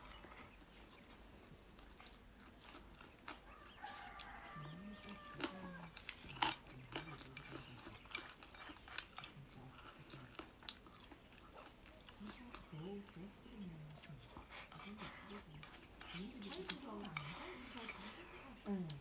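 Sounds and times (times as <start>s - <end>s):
chewing and biting crunchy food: 0.0s - 18.4s.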